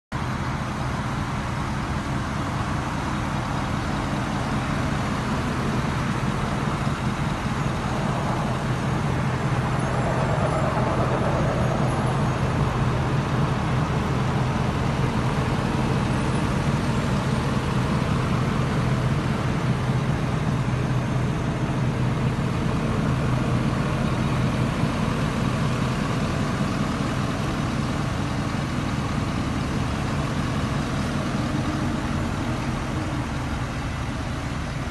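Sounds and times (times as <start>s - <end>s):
pickup engine idling: 0.2s - 34.9s.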